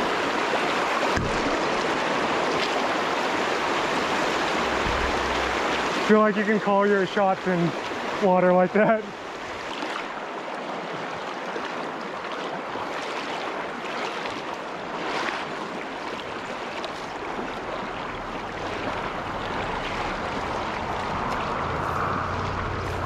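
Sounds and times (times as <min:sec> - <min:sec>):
stream rushing over rocks: 0:00.0 - 0:23.0.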